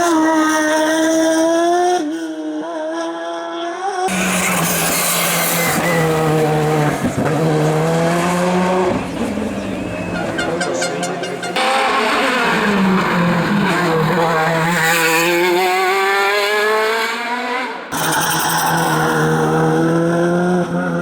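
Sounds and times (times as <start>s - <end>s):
race car engine accelerating: 4.0s - 21.0s.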